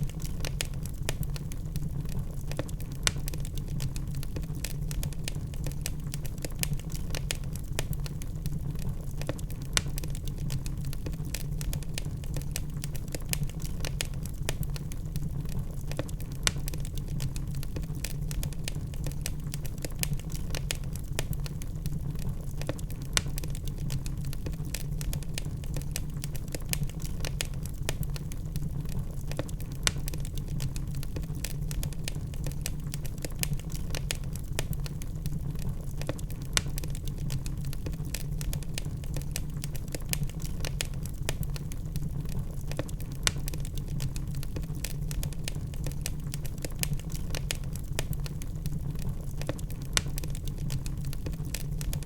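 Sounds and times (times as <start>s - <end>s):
low fire rumble: 0.0s - 52.0s
wood fire crackling: 0.0s - 52.0s.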